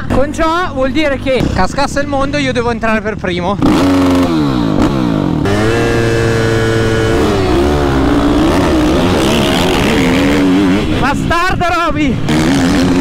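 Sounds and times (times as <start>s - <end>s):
motocross bike engines accelerating: 0.0s - 13.0s.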